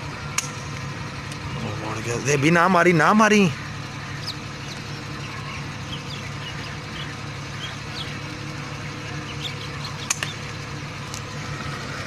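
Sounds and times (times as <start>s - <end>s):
distant engine hum: 0.0s - 12.0s
small birds chirping: 0.0s - 12.0s.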